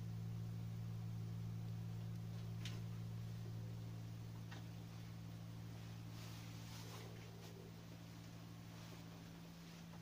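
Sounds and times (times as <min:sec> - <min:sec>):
faint room hiss: 0:00.0 - 0:10.0
gas boiler humming: 0:00.0 - 0:10.0.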